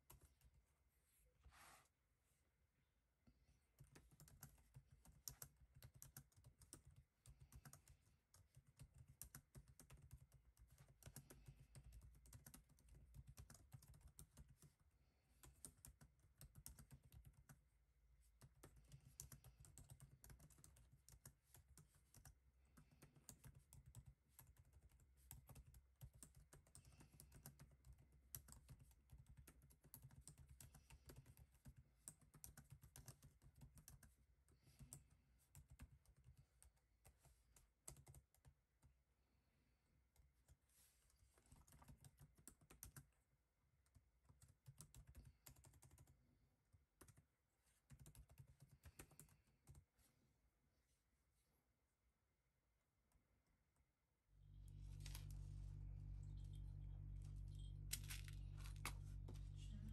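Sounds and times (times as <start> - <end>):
faint typing on a keyboard: 0.0 - 0.7, 3.2 - 39.0, 40.0 - 50.2, 53.1 - 59.9.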